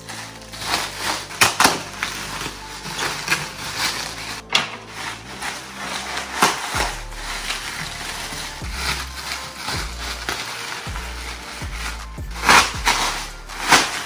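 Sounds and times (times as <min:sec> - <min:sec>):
bubble wrap crinkling and snapping: 0:00.0 - 0:14.0.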